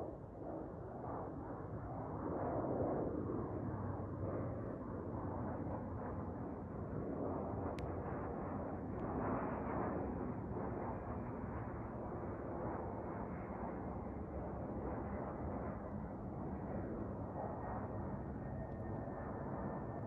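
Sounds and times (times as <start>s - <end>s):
airplane flying overhead: 0.0s - 20.0s.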